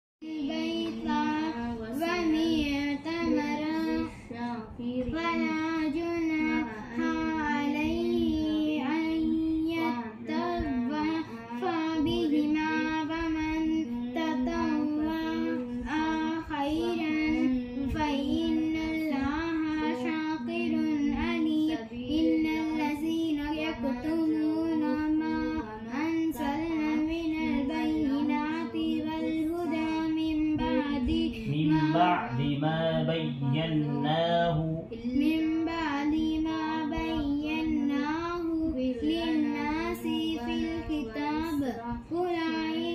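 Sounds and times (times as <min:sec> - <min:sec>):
child chanting melodically: 0:00.2 - 0:42.9.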